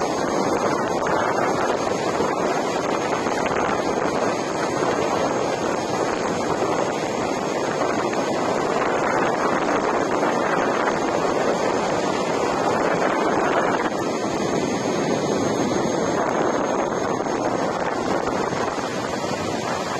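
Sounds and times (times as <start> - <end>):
wind on microphone: 0.0 - 19.9.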